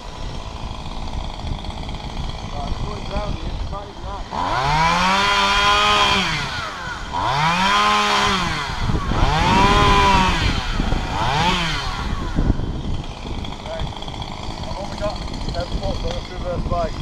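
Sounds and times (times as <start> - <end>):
chainsaw revving while cutting: 0.0 - 17.0.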